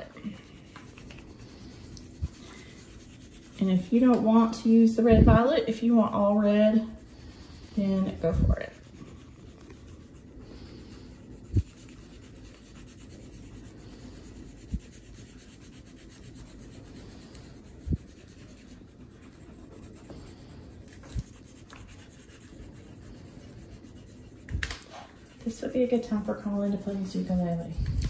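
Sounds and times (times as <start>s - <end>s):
crayons scratching on paper: 0.0s - 28.0s.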